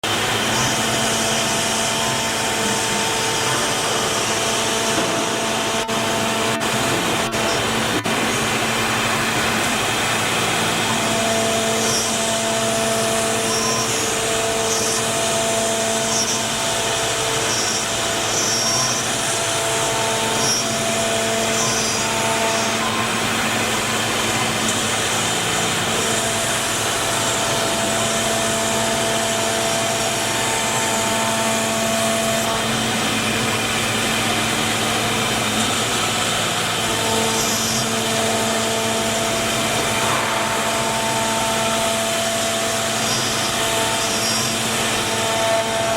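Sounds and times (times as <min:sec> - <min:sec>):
machine humming tones: 0:00.0 - 0:45.9
router machine whirring: 0:00.0 - 0:45.9.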